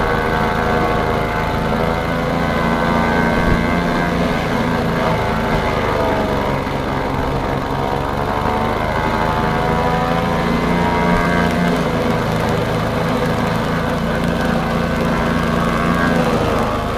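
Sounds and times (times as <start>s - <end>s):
small engine running: 0.0s - 16.9s.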